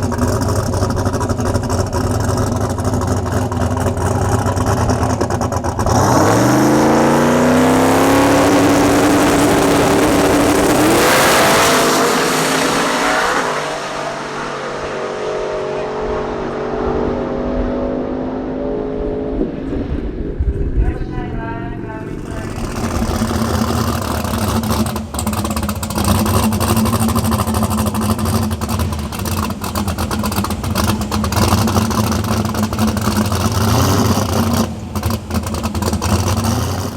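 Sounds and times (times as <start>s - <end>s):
drag car engine at full throttle: 0.0s - 36.9s.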